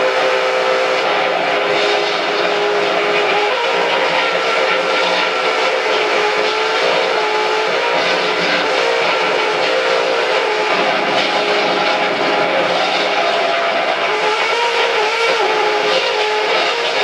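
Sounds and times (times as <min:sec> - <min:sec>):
distorted electric guitar noise: 0:00.0 - 0:17.0.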